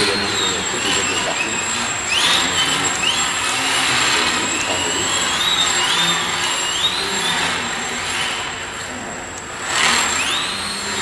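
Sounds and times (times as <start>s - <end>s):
steady machine noise: 0.0s - 11.0s
stepper motors whining: 0.0s - 11.0s.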